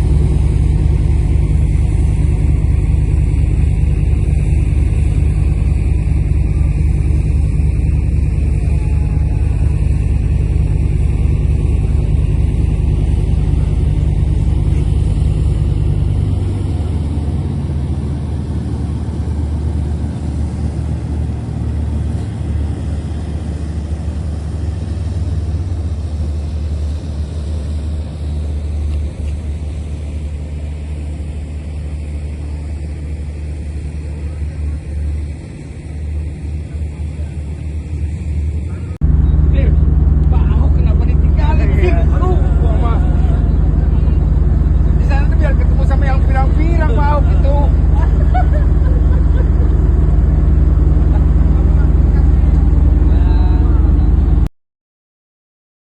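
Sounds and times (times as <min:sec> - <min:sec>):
large engine humming: 0:00.0 - 0:54.5
rushing noise: 0:00.0 - 0:54.5.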